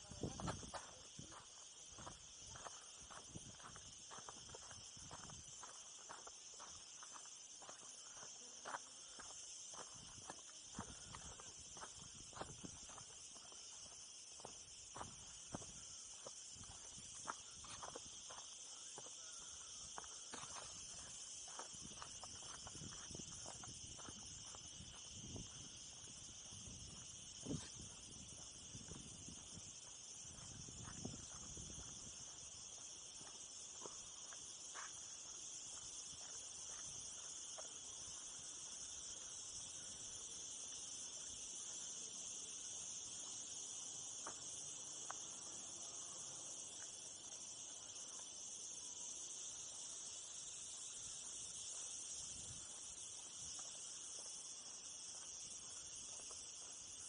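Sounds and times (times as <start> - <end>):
footsteps on dirt path: 0.0 - 39.9, 40.5 - 48.6, 50.0 - 57.0
cicadas buzzing: 0.0 - 57.0.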